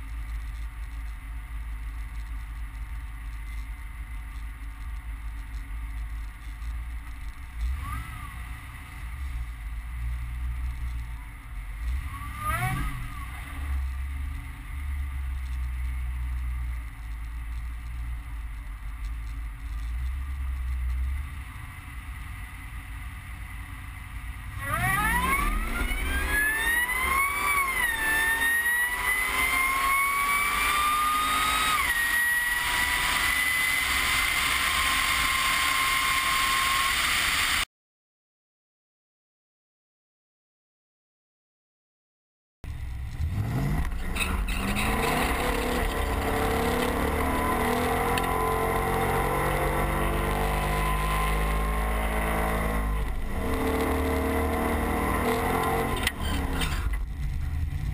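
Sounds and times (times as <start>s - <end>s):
pickup engine rumbling and revving: 0.0s - 37.6s, 42.7s - 57.9s
supercharger whine: 0.0s - 37.7s, 42.7s - 57.9s.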